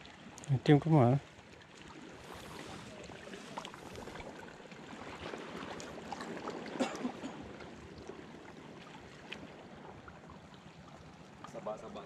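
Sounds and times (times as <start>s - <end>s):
seawater lapping over reef: 0.0s - 12.0s.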